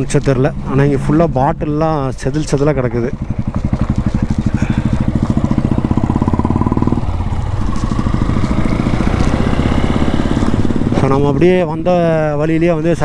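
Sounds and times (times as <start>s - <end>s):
motorcycle engine running: 0.5s - 11.6s.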